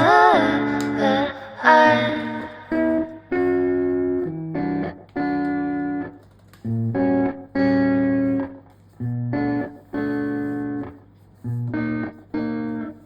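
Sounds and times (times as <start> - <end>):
instrumental chords: 0.0 - 13.0.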